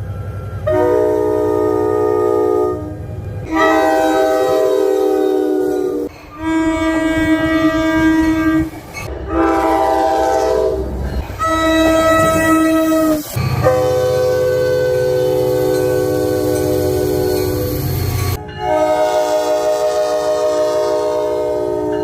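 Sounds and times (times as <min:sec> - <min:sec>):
train air horn blasts: 0:00.6 - 0:17.8, 0:18.6 - 0:22.0.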